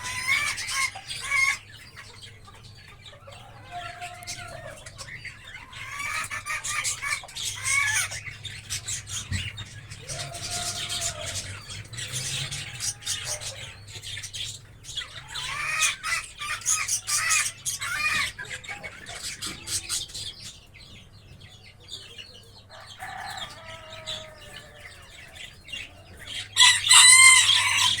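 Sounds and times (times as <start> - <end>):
cockatiels chirping and calling: 0.0 - 28.0.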